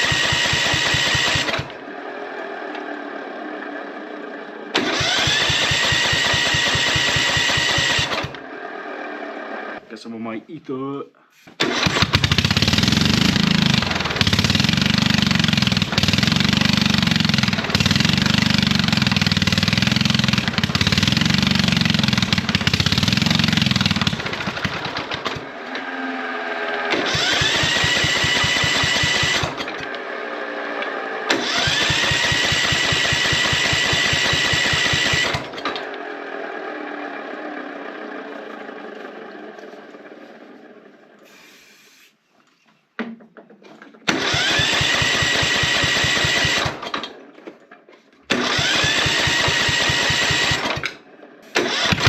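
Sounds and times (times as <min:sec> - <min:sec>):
lawn mower engine running: 0:00.0 - 0:09.9, 0:11.6 - 0:41.7, 0:43.8 - 0:52.0.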